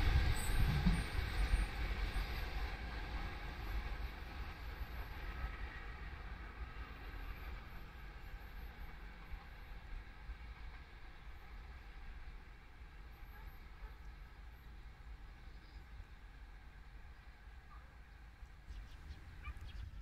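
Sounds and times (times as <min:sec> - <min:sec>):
electric train low rumble: 0:00.0 - 0:20.0.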